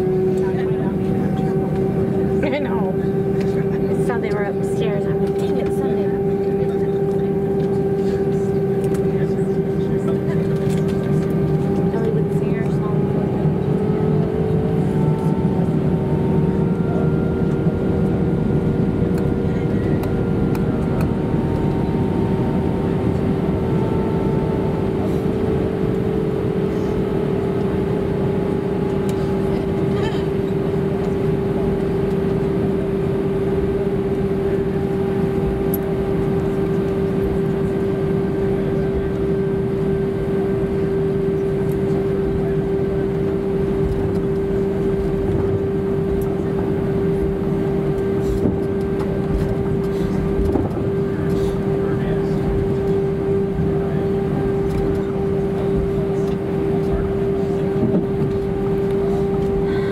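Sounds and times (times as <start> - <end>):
jet engines humming in cabin: 0.0 - 59.9.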